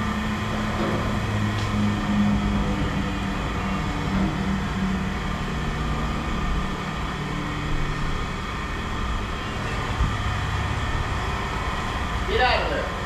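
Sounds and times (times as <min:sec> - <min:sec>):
even road rush: 0:00.0 - 0:13.0
vehicle engine hum: 0:00.0 - 0:13.0.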